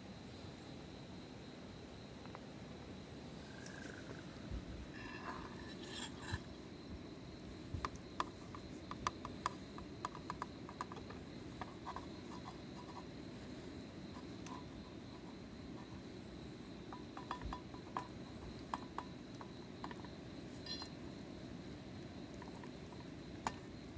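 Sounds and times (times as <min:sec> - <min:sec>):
insects chirping: 0:00.0 - 0:23.9.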